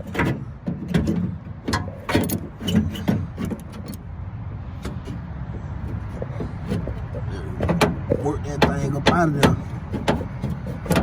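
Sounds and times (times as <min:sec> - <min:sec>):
steady low rumble: 0:02.0 - 0:10.8.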